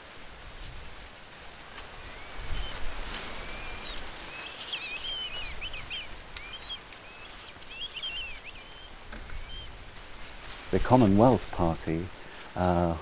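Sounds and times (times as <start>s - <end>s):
soft outdoor hiss: 0.0s - 13.0s
songbird singing: 1.8s - 13.0s.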